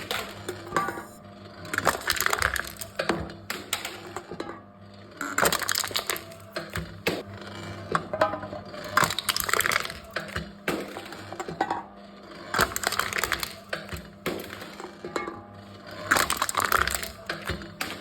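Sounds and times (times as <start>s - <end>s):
cans crushed by machine: 0.0s - 1.0s, 1.6s - 4.4s, 5.0s - 18.0s.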